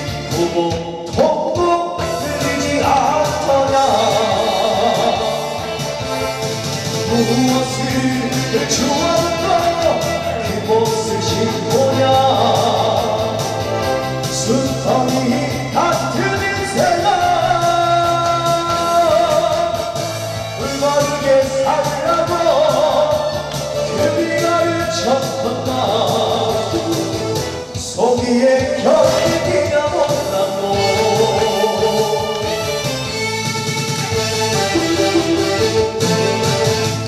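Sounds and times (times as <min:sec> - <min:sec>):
man singing into a microphone: 0:00.0 - 0:33.2
instrumental backing music: 0:00.0 - 0:37.0.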